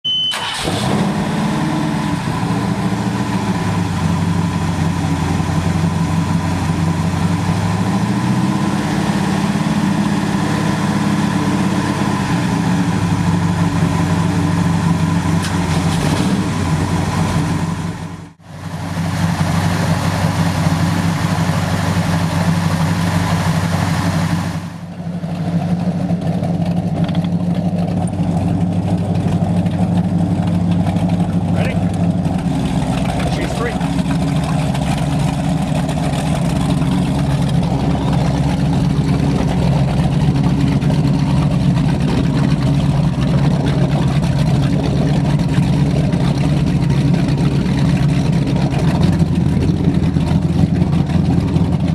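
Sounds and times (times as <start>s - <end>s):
speedboat engines running: 2.3s - 15.9s, 16.6s - 51.9s.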